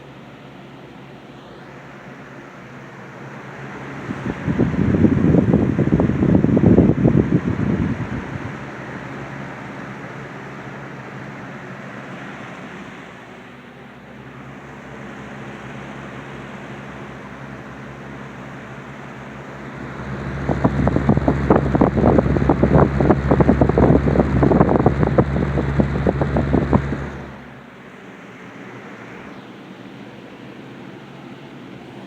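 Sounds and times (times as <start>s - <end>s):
box fan running: 0.0s - 32.0s
airflow buffeting microphone: 3.0s - 32.0s.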